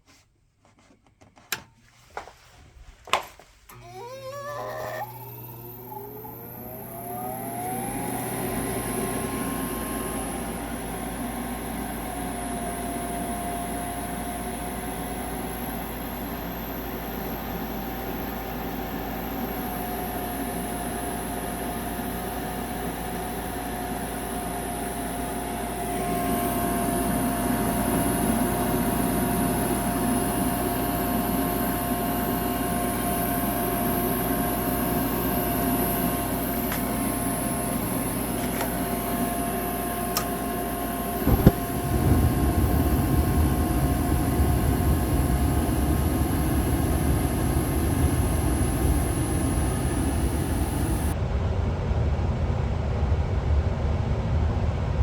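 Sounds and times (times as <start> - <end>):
motor spinning up and humming: 3.7 - 51.2.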